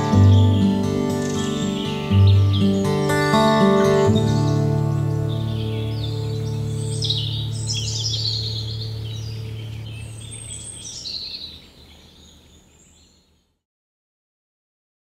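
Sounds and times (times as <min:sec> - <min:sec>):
birdsong chirps: 0:00.0 - 0:13.6.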